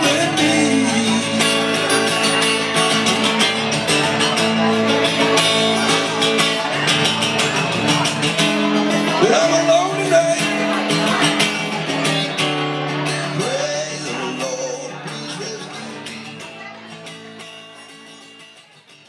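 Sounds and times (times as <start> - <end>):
blues music with guitar: 0.0 - 19.0.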